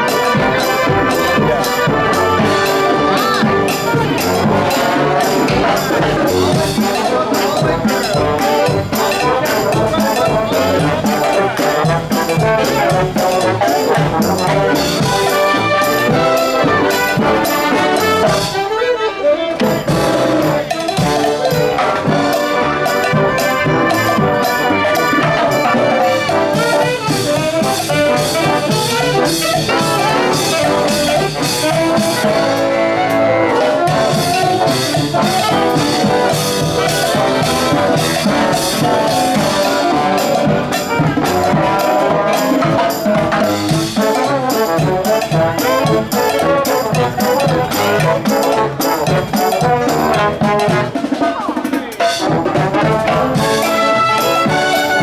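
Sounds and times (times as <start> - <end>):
brass music: 0.0 - 55.0.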